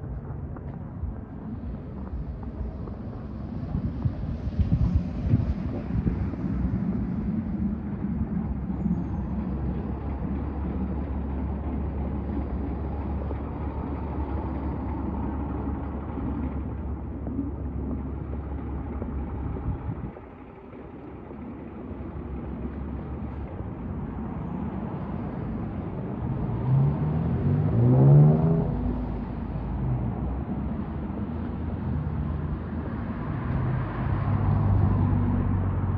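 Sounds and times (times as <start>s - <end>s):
vehicle engine running: 0.0s - 35.9s
vehicle accelerating: 1.4s - 35.9s.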